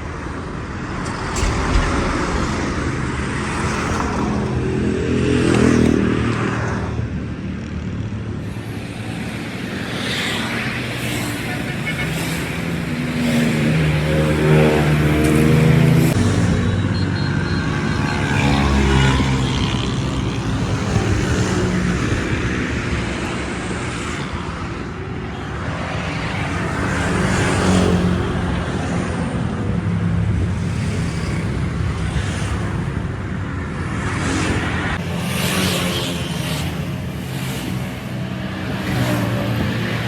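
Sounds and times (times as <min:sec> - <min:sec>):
car engines humming: 0:00.0 - 0:40.0
vehicles passing: 0:00.0 - 0:40.0.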